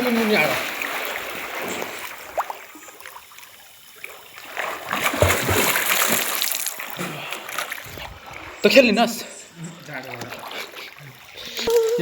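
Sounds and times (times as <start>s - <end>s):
water splashing from swimmers: 0.0s - 12.0s.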